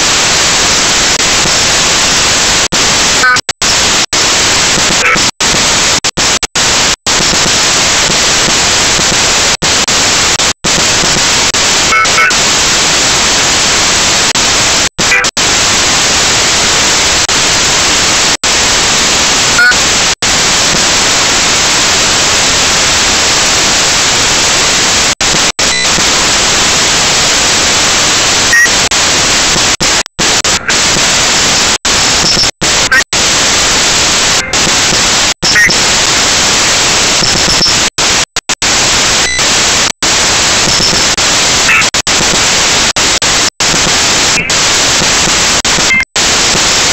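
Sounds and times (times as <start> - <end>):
static hiss: 0.0 - 46.9.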